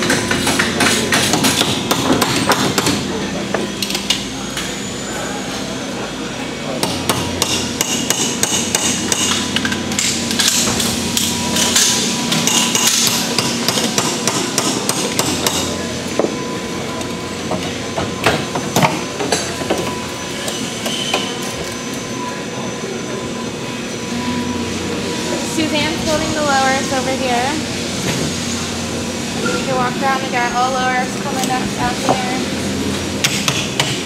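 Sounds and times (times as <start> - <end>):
shop machinery hum: 0.0 - 34.0.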